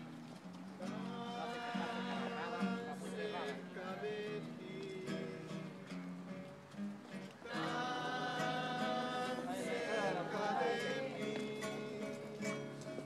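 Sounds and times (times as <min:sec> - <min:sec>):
acoustic guitars strumming: 0:00.0 - 0:13.0
group of voices singing: 0:00.8 - 0:06.0, 0:07.4 - 0:13.0.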